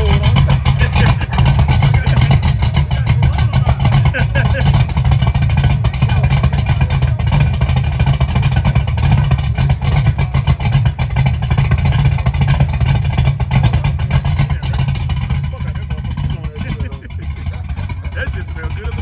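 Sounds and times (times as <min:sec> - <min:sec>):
car exhaust rumbling: 0:00.0 - 0:19.0.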